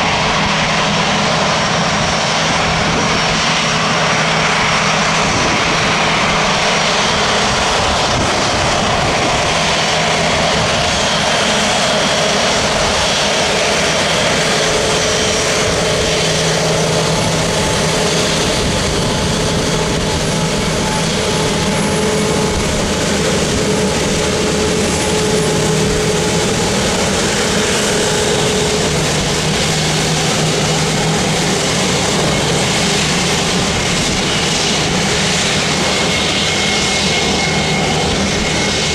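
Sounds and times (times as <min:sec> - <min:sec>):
jet engine rush with whine: 0:00.0 - 0:38.9.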